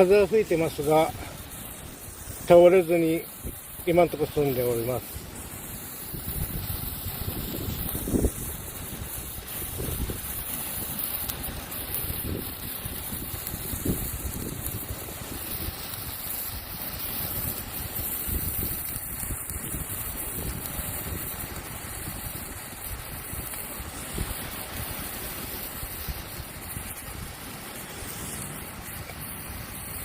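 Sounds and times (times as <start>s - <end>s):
wind buffeting microphone: 0.0s - 28.1s.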